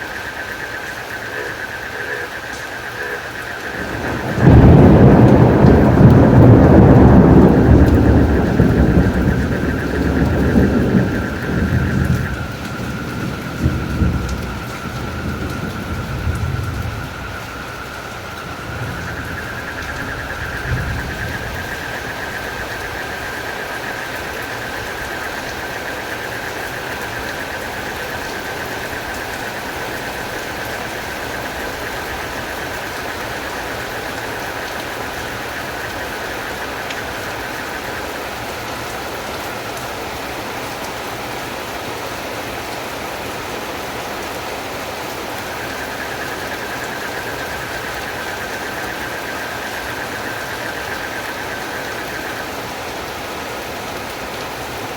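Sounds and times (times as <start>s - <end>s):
frogs and crickets trilling: 0.0s - 54.9s
heavy rain: 0.0s - 54.9s.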